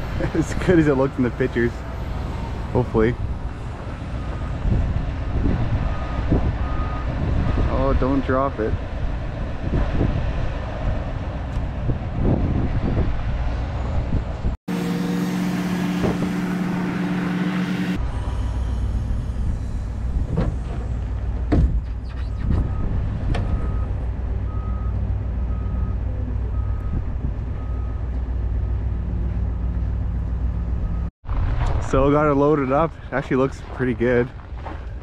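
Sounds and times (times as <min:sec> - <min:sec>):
heavy vehicle engines rumbling: 0:00.0 - 0:35.0.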